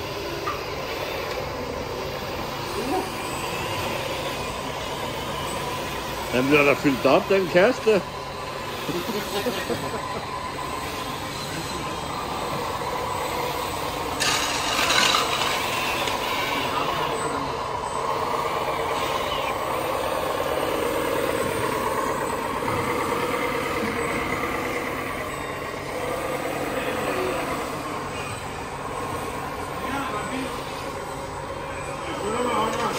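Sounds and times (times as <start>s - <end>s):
engine-like drone: 0.0s - 32.9s.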